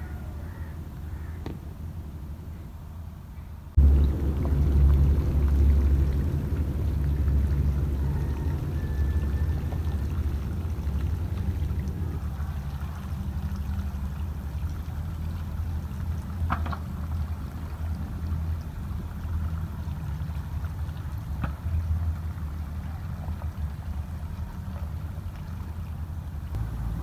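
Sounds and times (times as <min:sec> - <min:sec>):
steady low rumble: 0:00.0 - 0:27.0
hose water splashing: 0:03.8 - 0:27.0.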